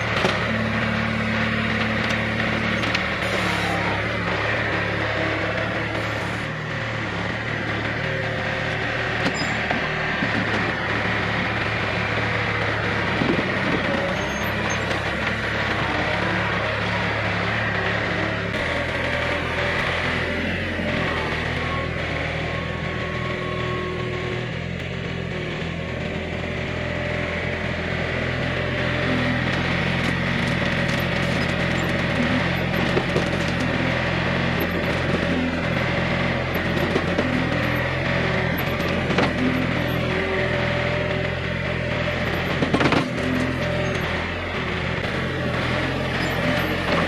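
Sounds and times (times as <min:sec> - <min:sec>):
backhoe engine running: 0:00.0 - 0:47.0.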